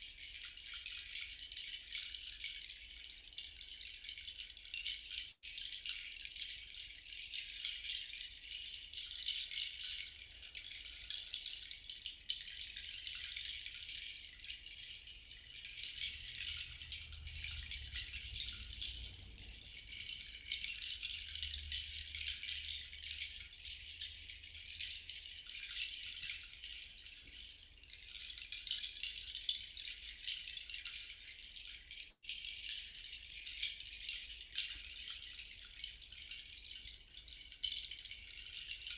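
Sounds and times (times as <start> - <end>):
handheld rattle shaken: 0.0 - 38.9.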